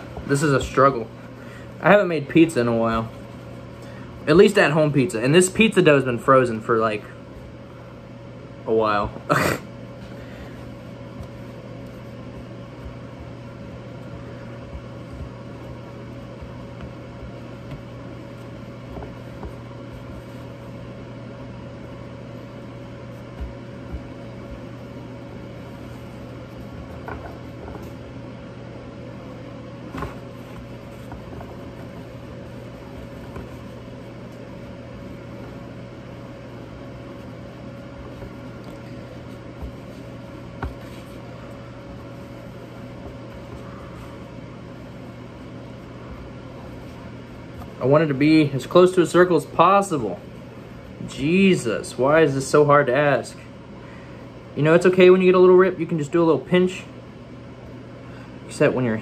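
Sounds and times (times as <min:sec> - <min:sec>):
appliance humming: 0:00.0 - 0:59.0.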